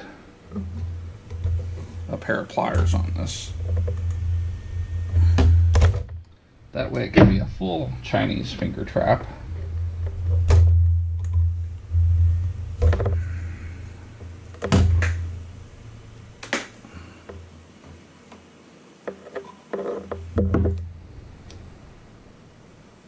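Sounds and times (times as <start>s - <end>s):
low hum: 0.0s - 17.8s, 20.1s - 23.0s.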